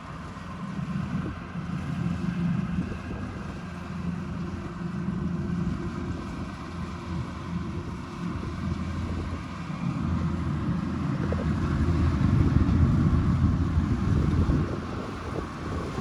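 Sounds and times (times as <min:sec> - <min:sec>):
combine harvester diesel engine: 0:00.0 - 0:16.0.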